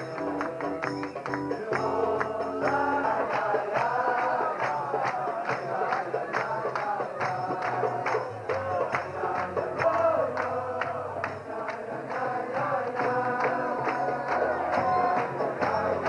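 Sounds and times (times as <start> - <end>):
hand claps: 0.0 - 16.0
men singing in unison: 0.0 - 16.0.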